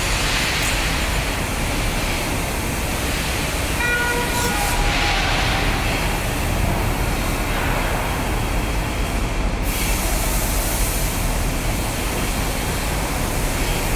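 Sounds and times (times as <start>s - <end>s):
broad hiss: 0.0s - 13.9s
crane engine rumble: 0.0s - 13.9s.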